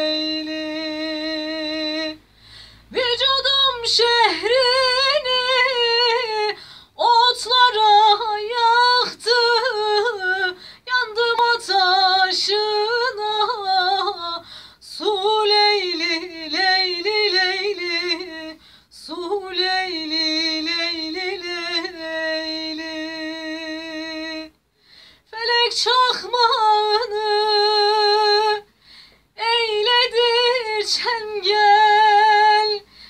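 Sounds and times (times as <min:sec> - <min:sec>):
woman singing unaccompanied: 0:00.0 - 0:02.3, 0:02.9 - 0:24.6, 0:25.3 - 0:28.7, 0:29.3 - 0:33.0.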